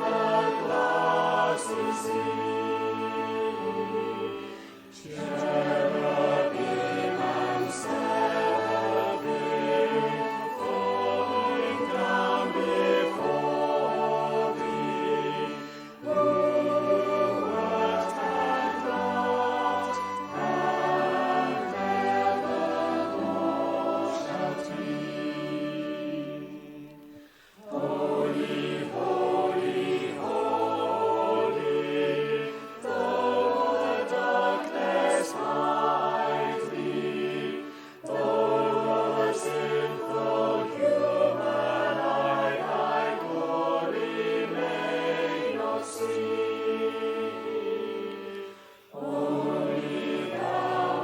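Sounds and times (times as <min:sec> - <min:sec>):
choir singing a hymn: 0:00.0 - 0:51.0.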